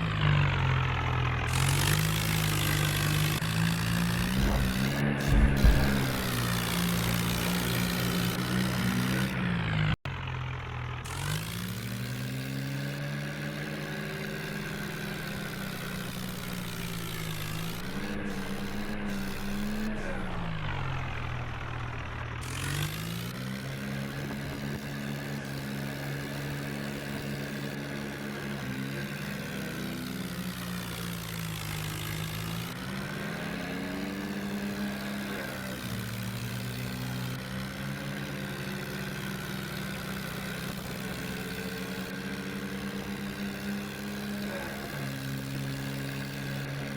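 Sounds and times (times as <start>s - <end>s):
tractor engine revving: 0.0s - 10.0s, 10.8s - 46.9s.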